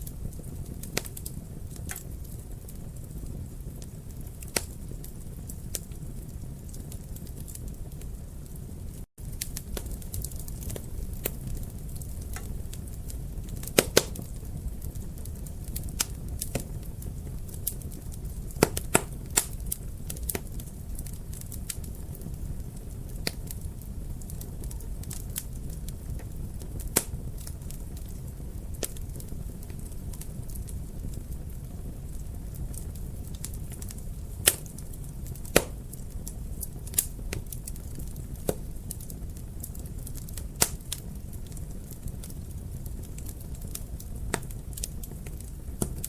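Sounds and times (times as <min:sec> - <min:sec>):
sharp pops from fire: 0:00.0 - 0:46.0
wood fire crackling: 0:00.0 - 0:46.0.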